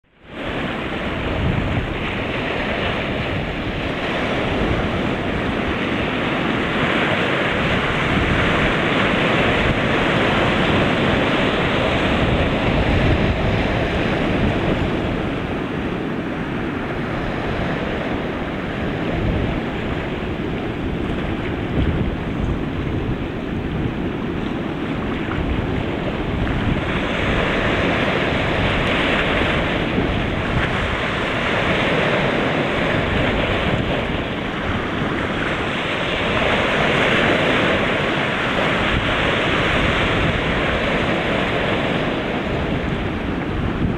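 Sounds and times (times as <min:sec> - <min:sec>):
waves breaking on rocks: 0:00.2 - 0:43.9
wind buffeting microphone: 0:00.2 - 0:43.9.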